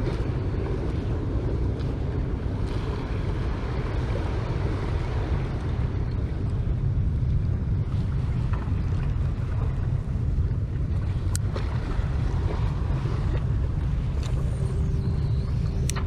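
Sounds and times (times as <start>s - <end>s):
faint hum: 0.0s - 16.0s
wind buffeting microphone: 0.0s - 16.0s.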